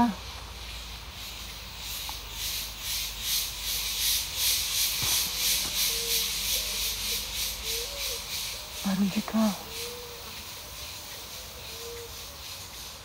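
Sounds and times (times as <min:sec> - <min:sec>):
night insects buzzing: 0:00.0 - 0:13.0.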